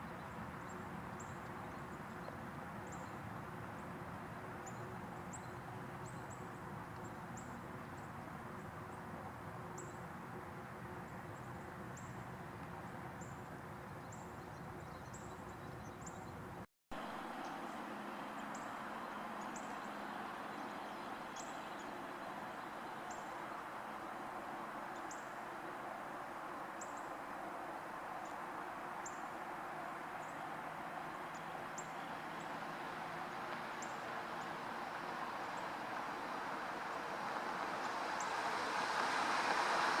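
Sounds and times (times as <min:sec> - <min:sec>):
distant traffic rumble: 0:00.0 - 0:40.0.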